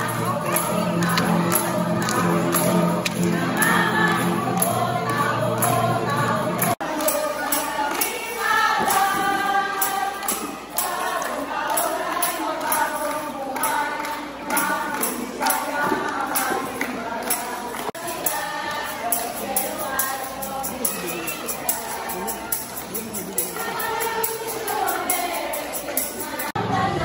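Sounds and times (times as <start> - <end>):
group of voices singing: 0.0 - 27.0.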